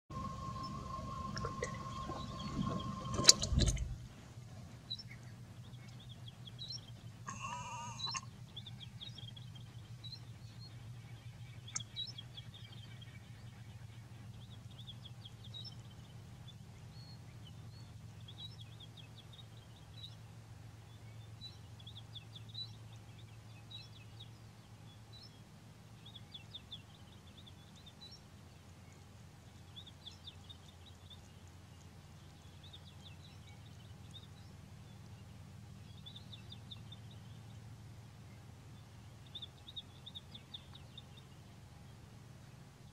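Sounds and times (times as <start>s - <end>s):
steady low hum: 0.1s - 42.9s.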